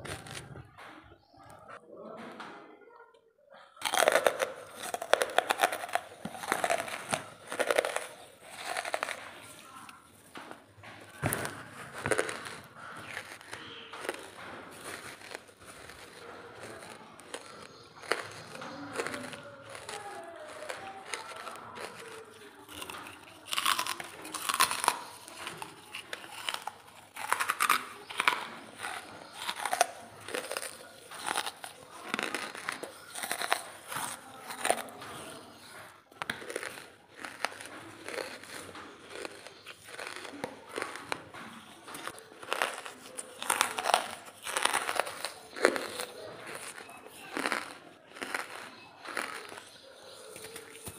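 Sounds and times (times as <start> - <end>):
crunching and chewing charcoal: 0.0 - 2.6, 3.6 - 50.9.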